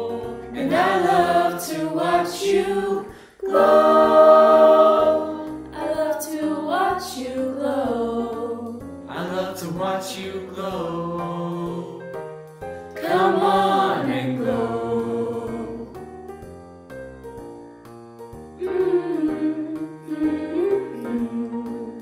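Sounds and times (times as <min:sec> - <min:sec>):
vocal ensemble singing in harmony: 0:00.0 - 0:12.2, 0:12.9 - 0:16.1, 0:18.6 - 0:22.0.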